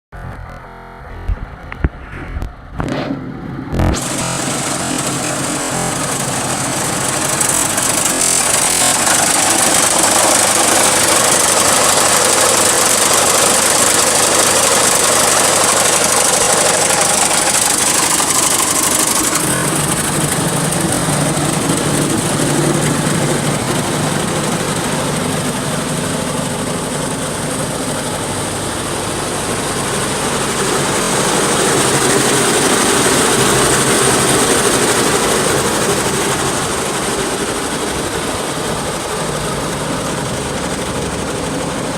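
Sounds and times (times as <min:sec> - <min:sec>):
hydraulic pump noise: 0:00.2 - 0:41.9
skid steer engine running: 0:00.2 - 0:41.9.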